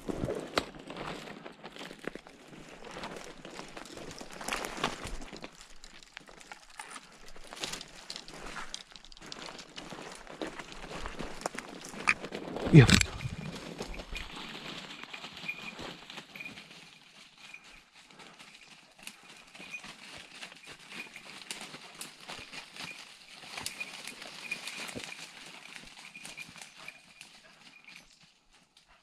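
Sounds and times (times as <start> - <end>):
footsteps crunching through undergrowth: 0.0 - 27.0.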